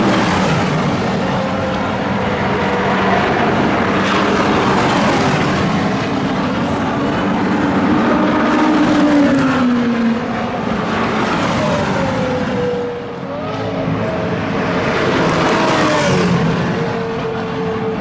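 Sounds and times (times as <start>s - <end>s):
sports car engine passing: 0.0s - 18.0s.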